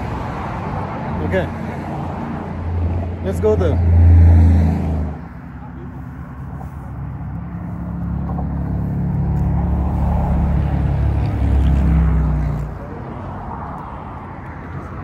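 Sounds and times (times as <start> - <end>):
faint traffic noise: 0.0 - 15.0
vehicle engine droning: 0.0 - 15.0.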